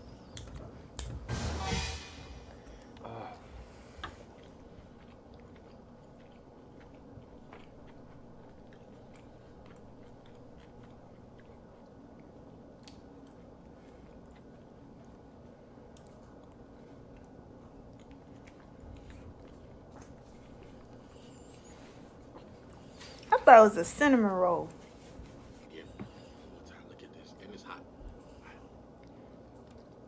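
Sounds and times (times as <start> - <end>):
close chewing and mouth sounds: 0.0 - 1.1, 2.6 - 23.4, 24.2 - 30.0
steady low hum: 0.0 - 30.0.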